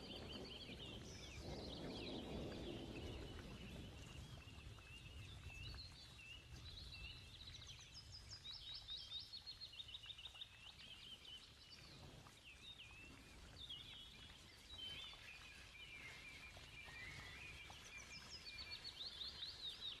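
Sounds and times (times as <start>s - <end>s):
small birds chirping and trilling: 0.0s - 20.0s.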